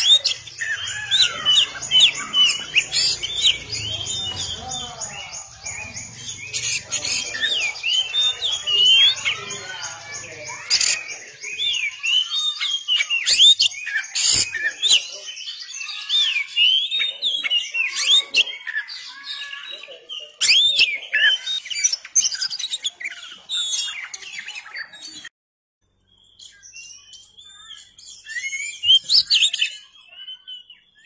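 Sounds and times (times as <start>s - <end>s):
bird singing whistled song: 0.0s - 25.2s, 26.0s - 31.0s.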